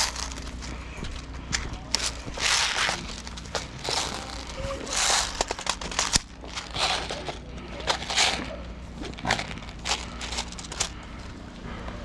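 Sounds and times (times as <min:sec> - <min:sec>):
footsteps crunching on gritty floor: 0:00.0 - 0:11.0.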